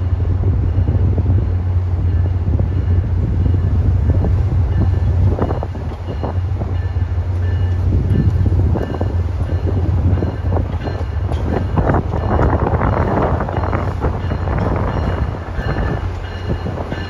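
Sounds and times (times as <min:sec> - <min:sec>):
train rolling slowly: 0:00.0 - 0:17.0
wind buffeting microphone: 0:00.0 - 0:17.0.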